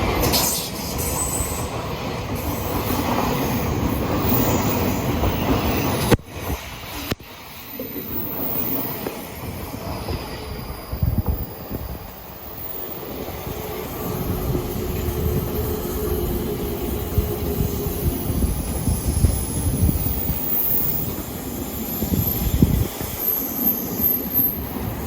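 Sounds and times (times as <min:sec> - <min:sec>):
electric train rumbling past: 0:00.0 - 0:25.0.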